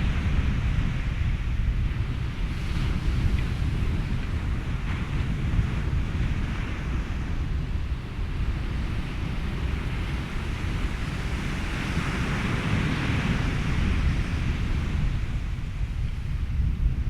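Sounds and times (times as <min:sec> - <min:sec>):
ocean surf: 0:00.0 - 0:17.0
wind: 0:00.0 - 0:17.0.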